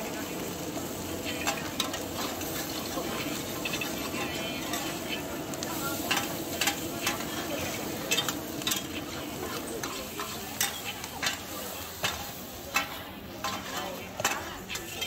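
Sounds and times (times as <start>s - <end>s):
food sizzling: 0.0s - 15.0s
metal spatulas scraping a wok: 1.3s - 15.0s.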